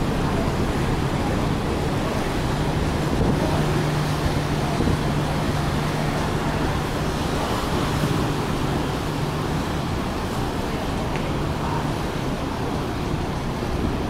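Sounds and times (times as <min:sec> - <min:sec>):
ship thrusters churning water: 0:00.0 - 0:14.0.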